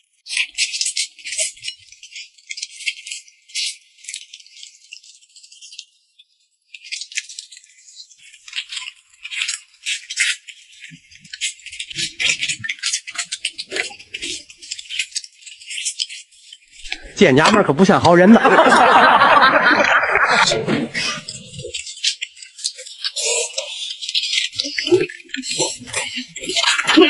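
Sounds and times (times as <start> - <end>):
person chewing chicken: 0.0 - 27.0.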